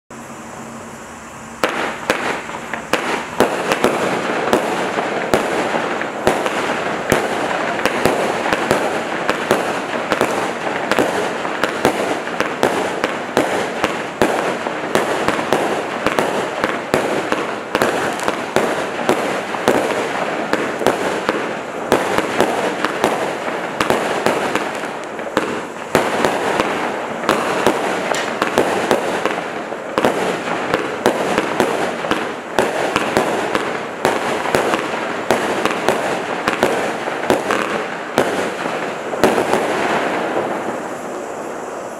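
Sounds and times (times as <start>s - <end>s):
dense firework hiss: 0.1s - 41.9s
fireworks launching and bursting: 0.1s - 41.9s.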